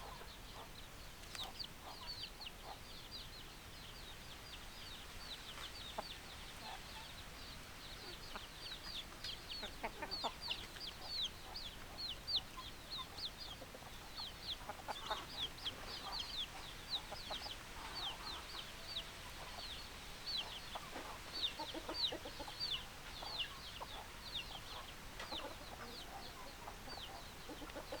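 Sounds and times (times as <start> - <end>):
chickens clucking: 0.0 - 3.4, 4.5 - 28.0
chickens peeping: 0.0 - 28.0.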